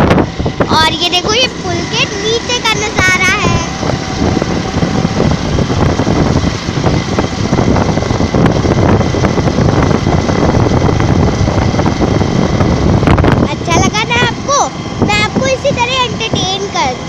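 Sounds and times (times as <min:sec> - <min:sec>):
road noise: 0:00.0 - 0:17.0
vehicle engine rumble: 0:00.0 - 0:17.0
wind buffeting microphone: 0:00.0 - 0:17.0.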